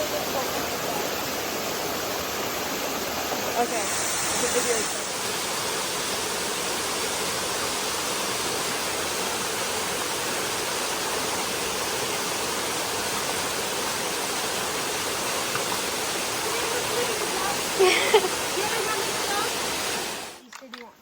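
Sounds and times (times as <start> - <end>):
waterfall roaring: 0.0 - 20.4.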